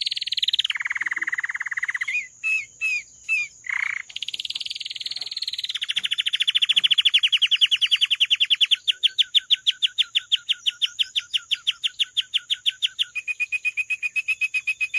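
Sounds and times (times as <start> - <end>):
canary trilling: 0.0 - 14.9.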